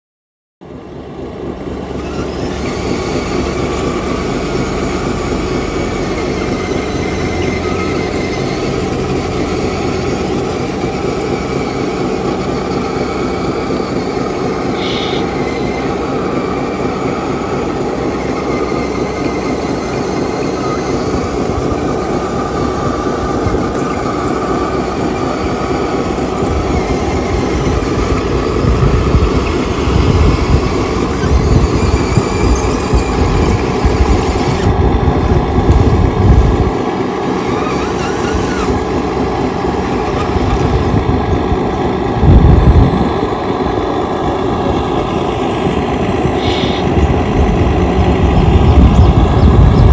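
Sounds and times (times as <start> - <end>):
steel tracks rattling: 0.7 - 49.9
hydraulic pump whining: 1.9 - 49.9.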